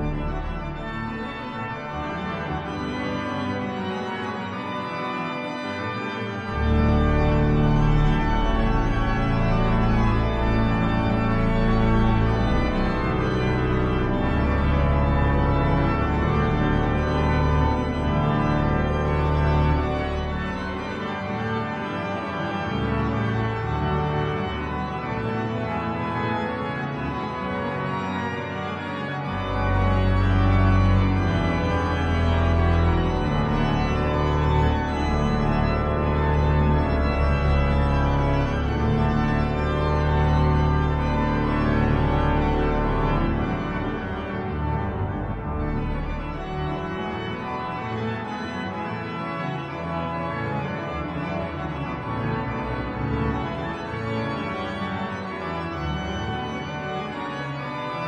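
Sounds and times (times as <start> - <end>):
deep organ pedal bass notes: 0.0 - 58.0
organ chords: 0.0 - 58.0.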